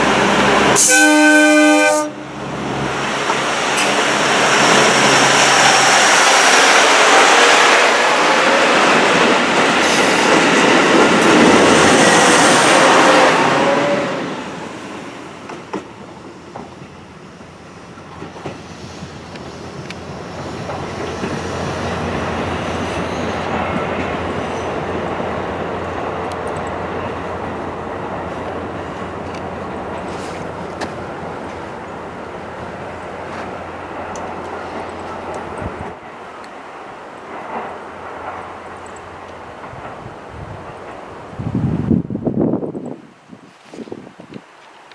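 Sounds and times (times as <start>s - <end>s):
train passing wheels on rails: 0.0s - 44.9s.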